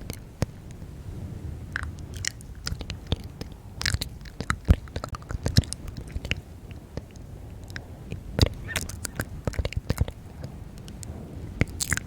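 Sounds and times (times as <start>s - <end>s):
wet mouth clicks and smacks: 1.8s - 6.4s, 7.0s - 12.0s.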